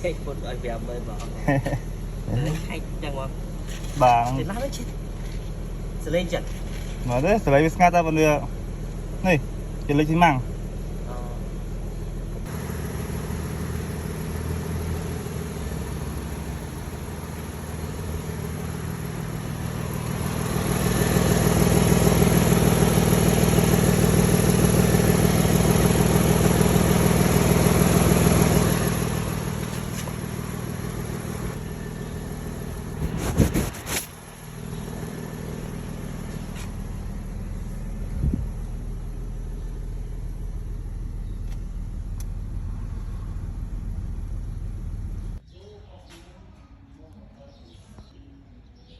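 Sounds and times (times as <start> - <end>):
car engine and exhaust revving: 0.0 - 45.4.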